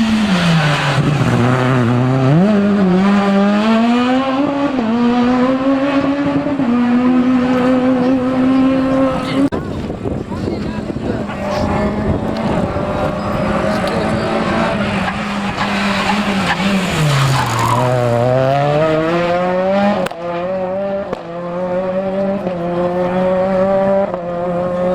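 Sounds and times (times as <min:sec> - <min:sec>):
rally car engine revving: 0:00.0 - 0:24.9.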